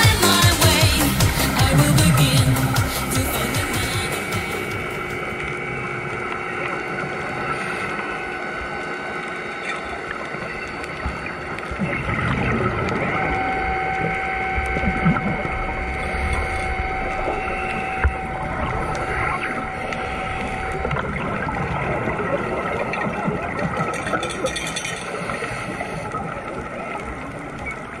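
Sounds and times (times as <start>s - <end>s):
rushing water: 0.0s - 28.0s
underwater electric motor whine: 0.4s - 28.0s
bubbles gurgling: 1.0s - 28.0s.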